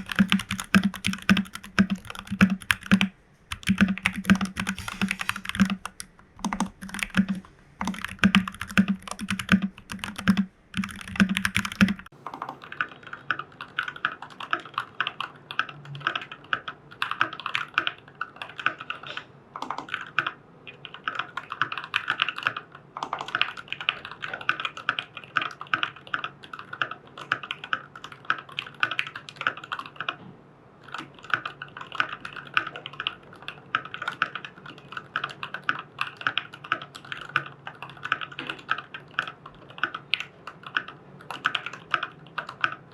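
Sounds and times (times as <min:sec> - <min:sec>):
mechanical keyboard typing: 0:00.0 - 0:30.2, 0:30.8 - 0:42.9.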